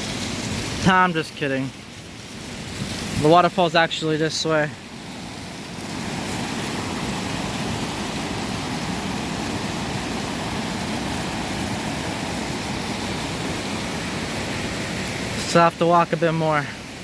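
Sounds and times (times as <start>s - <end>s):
water rushing and falling: 0.0s - 17.0s.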